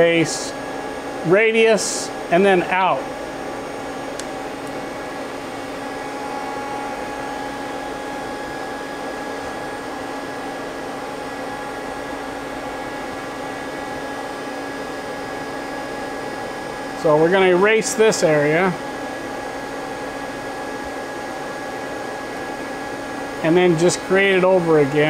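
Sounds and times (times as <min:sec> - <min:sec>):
lathe machine hum and hiss: 0:00.0 - 0:25.0.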